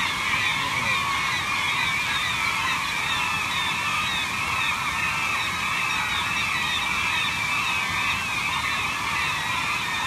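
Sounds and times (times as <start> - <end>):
flock of gulls calling: 0.0 - 10.0.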